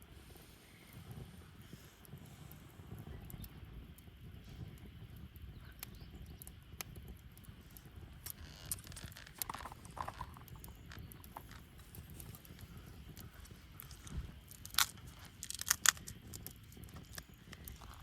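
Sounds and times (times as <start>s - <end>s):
bonfire crackling and popping: 0.0s - 18.0s
low rumble of flames: 0.0s - 18.0s.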